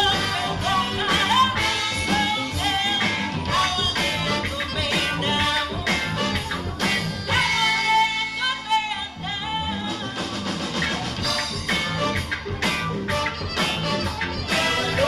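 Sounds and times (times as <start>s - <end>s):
steady drum beat: 0.0s - 7.9s, 10.1s - 15.0s
band playing with singing: 0.0s - 15.0s.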